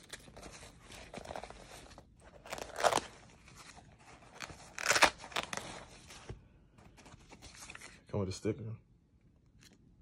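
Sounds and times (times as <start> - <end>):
fabric pouch and plastic rustling: 0.0 - 8.0.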